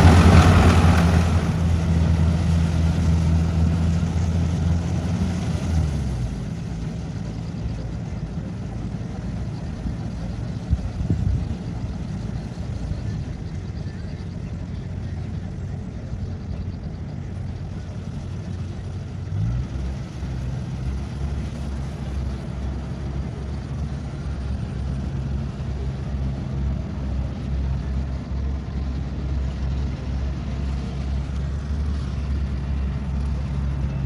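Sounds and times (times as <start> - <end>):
combine harvester diesel engine: 0.0 - 34.0.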